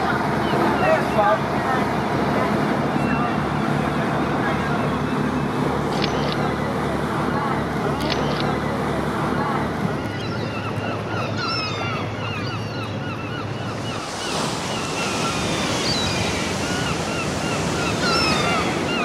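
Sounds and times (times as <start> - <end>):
sea waves on the shore: 0.0 - 19.0
wind: 0.0 - 19.0.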